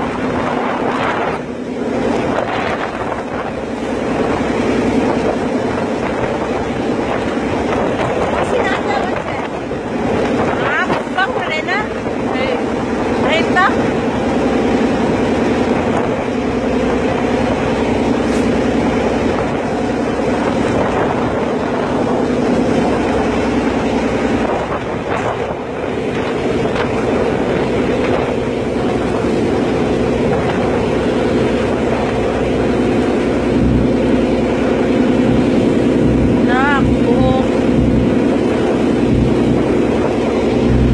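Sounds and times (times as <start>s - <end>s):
ferry engine running: 0.0s - 40.9s
wind buffeting microphone: 0.0s - 40.9s.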